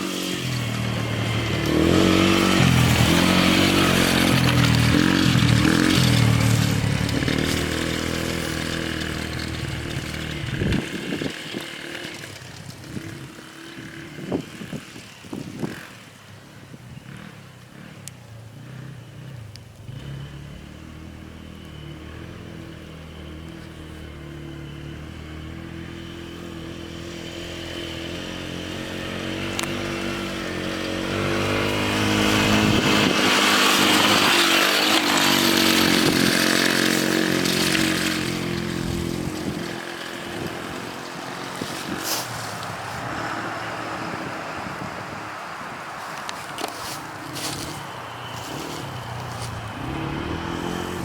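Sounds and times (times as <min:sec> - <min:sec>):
quad bike engine passing: 0:00.0 - 0:51.0.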